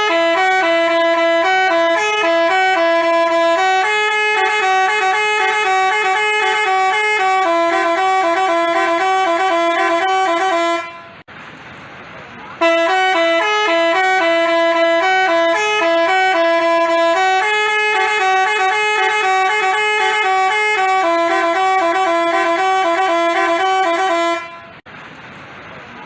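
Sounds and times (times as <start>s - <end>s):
bus horn playing a tune: 0.0s - 11.3s, 12.6s - 24.8s.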